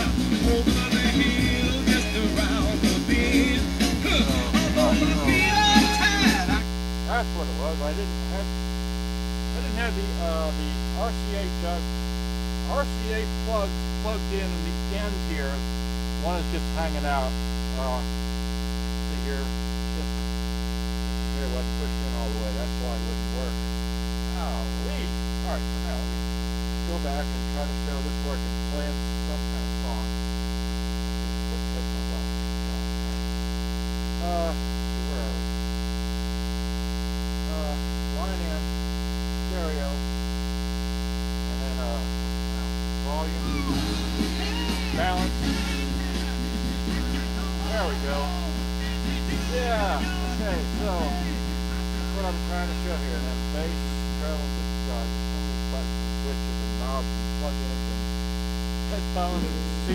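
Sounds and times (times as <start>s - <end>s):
mains hum: 0.0s - 59.9s.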